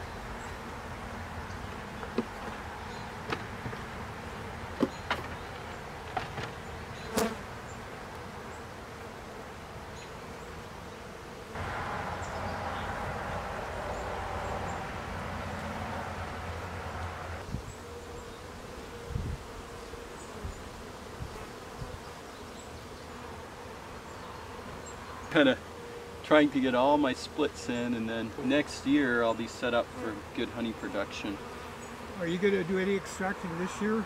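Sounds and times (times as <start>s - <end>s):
honeybees buzzing: 0.0s - 34.0s.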